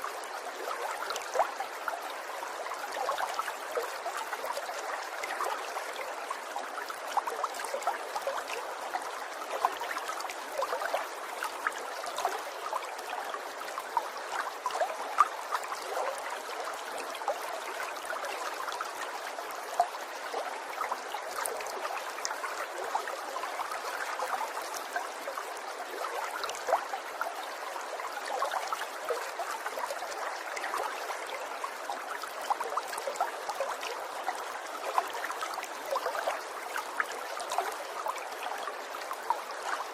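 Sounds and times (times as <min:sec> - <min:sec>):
small water splashes and drips: 0:00.0 - 0:39.9.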